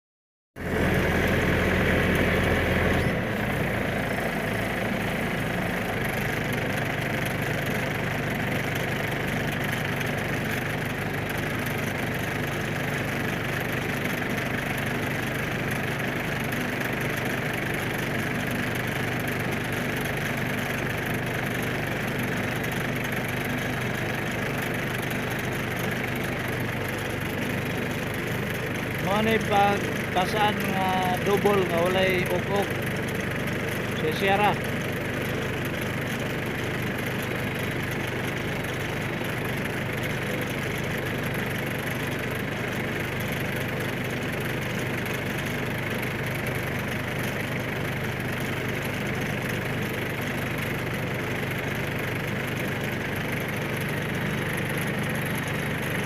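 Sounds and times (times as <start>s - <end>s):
engine idling: 0.6s - 56.0s.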